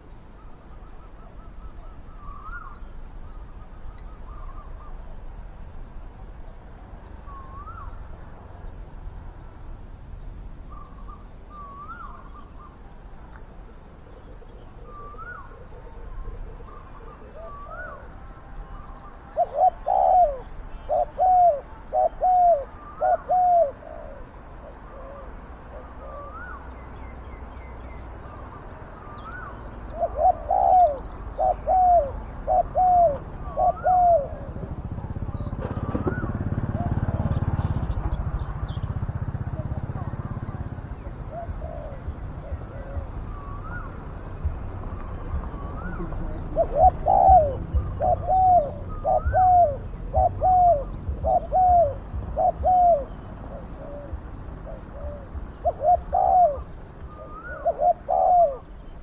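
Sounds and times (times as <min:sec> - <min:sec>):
doves cooing: 0:00.0 - 0:05.3, 0:06.6 - 0:08.8, 0:10.6 - 0:59.0.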